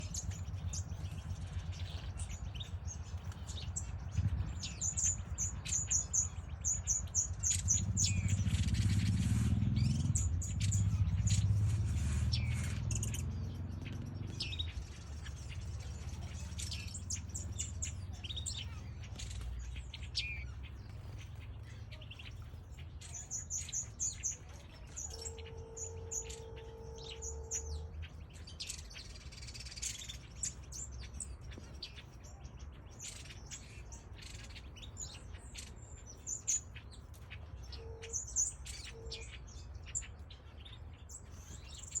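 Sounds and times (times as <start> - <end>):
small birds chirping and twittering: 0.0 - 42.0.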